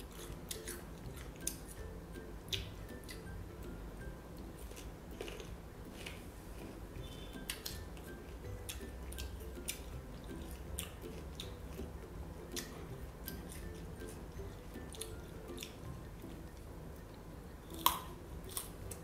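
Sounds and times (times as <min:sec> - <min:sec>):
crunchy fruit chewing: 0:00.0 - 0:01.8, 0:04.4 - 0:19.0.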